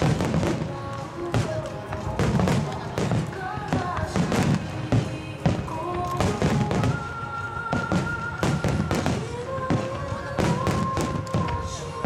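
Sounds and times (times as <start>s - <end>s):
music with long held notes: 0.0s - 12.0s.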